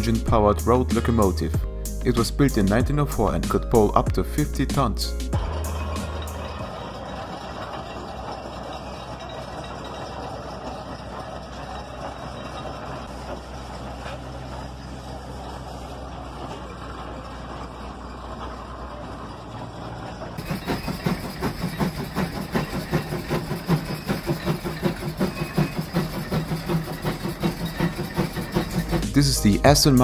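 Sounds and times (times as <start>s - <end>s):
steam engine running: 0.0s - 30.0s
steam exhaust chuffs: 0.0s - 30.0s.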